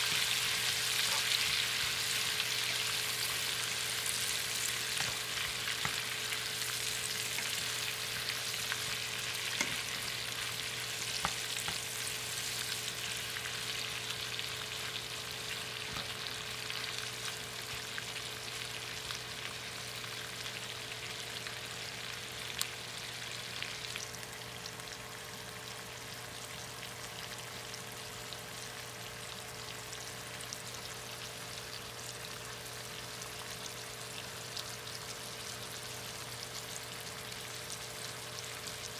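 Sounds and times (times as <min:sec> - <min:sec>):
vegetables sizzling in a frying pan: 0:00.0 - 0:38.9.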